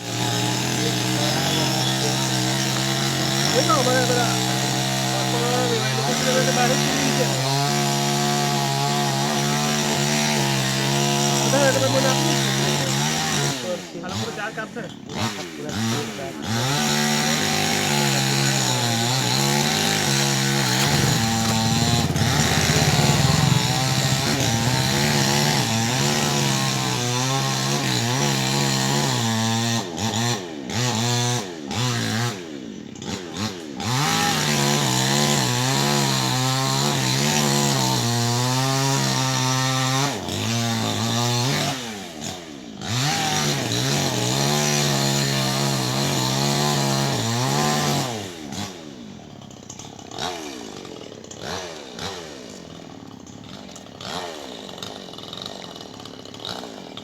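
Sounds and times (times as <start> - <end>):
chainsaw cutting into tree: 0.0 - 57.0.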